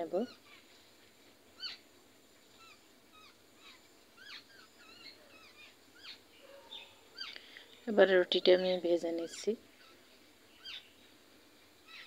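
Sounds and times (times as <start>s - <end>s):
low background hiss: 0.0s - 12.0s.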